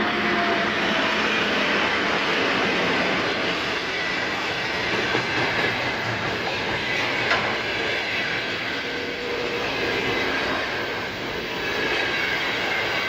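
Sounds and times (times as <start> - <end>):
train wheels rushing on track: 0.0 - 13.0.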